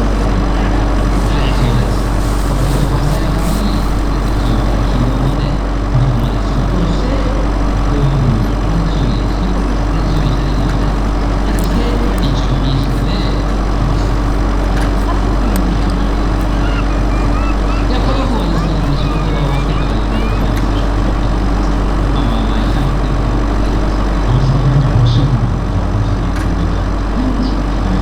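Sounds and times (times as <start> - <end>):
model helicopter running: 0.0 - 28.0.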